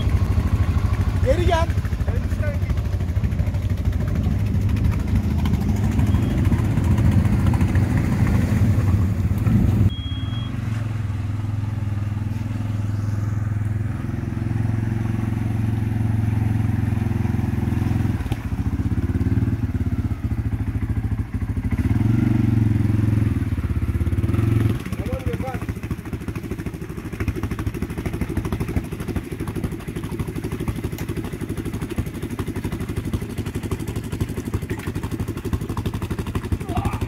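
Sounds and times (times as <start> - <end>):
atv engines running: 0.0 - 37.0.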